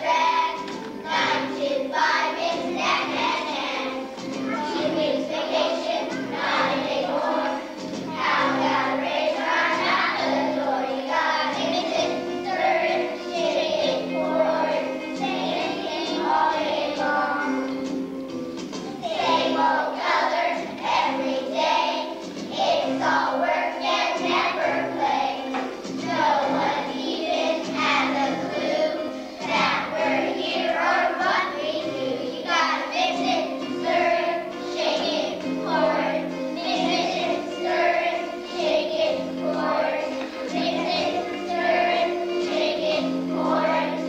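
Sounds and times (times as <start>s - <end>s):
children's choir singing: 0.0s - 44.0s
musical accompaniment: 0.0s - 44.0s.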